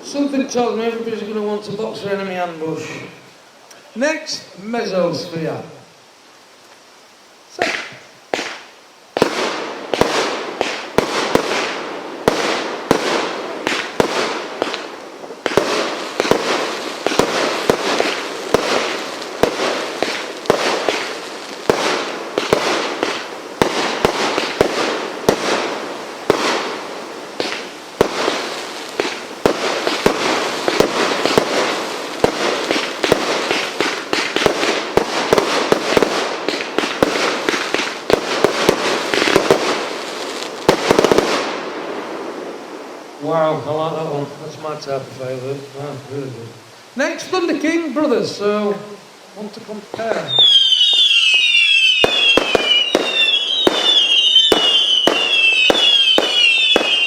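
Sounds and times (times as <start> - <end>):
fireworks bangs and crackle: 7.5 - 57.0.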